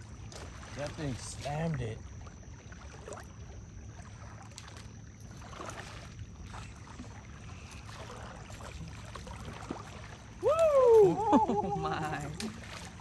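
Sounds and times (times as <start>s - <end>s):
water sloshing and lapping: 0.0s - 13.0s
fish splashing: 2.1s - 13.0s.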